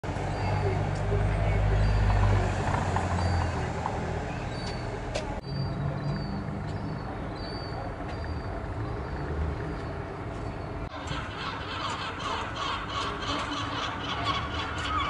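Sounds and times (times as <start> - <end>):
large vehicle engine rumble: 0.0 - 15.0.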